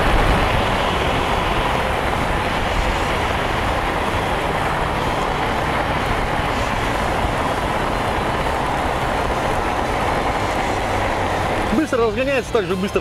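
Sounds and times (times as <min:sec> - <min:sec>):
motorcycle engine cruising: 0:00.0 - 0:13.0
road noise on wet road: 0:00.0 - 0:13.0
wind rush: 0:00.0 - 0:13.0.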